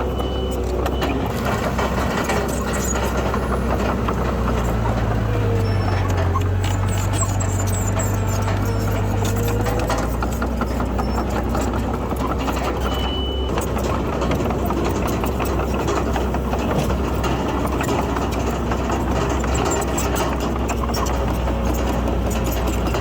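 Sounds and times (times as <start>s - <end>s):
clanks and rattles: 0.0s - 23.0s
diesel machinery engine drone: 0.0s - 23.0s.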